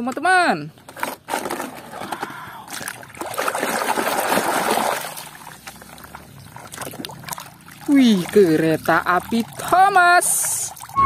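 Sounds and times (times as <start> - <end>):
water sloshing in a basin: 0.9 - 11.0.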